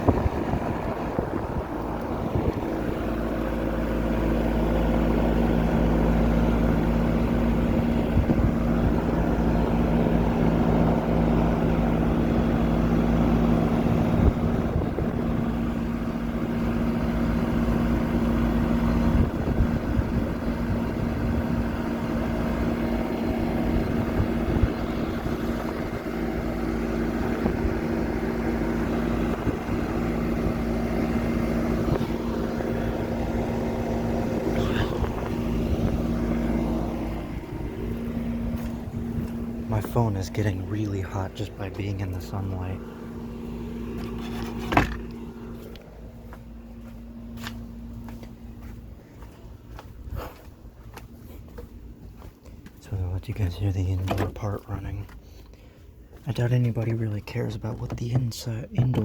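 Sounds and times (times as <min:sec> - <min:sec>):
compressor hum: 0:00.0 - 0:59.0
condenser fan whirring: 0:00.0 - 0:59.0.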